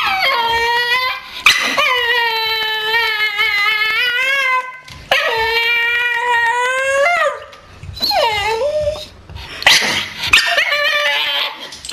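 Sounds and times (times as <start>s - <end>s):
dog whining howls: 0.0s - 9.2s, 10.3s - 11.7s.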